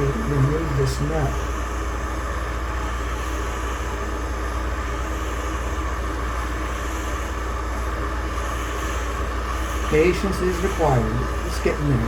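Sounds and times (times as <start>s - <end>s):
gas torch roaring: 0.0s - 12.0s.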